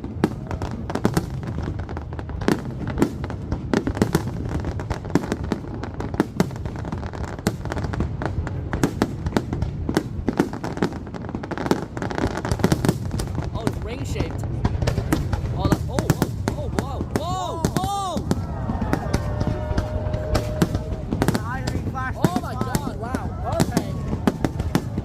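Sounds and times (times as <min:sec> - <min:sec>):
fireworks cracks and bangs: 0:00.0 - 0:25.0
low rumble of echoing booms: 0:00.0 - 0:25.0.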